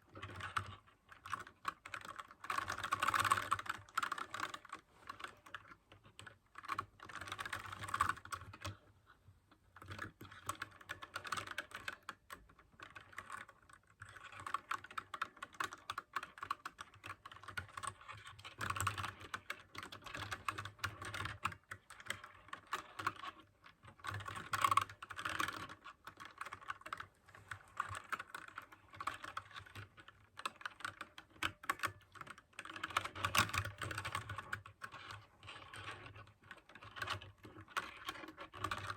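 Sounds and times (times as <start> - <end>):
mechanical keyboard typing: 0.2 - 8.8, 9.8 - 38.9.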